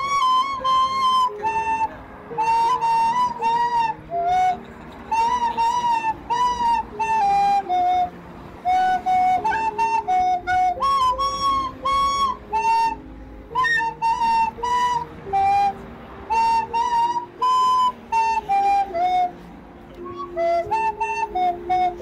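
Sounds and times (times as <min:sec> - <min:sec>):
background music melody: 0:00.0 - 0:22.0.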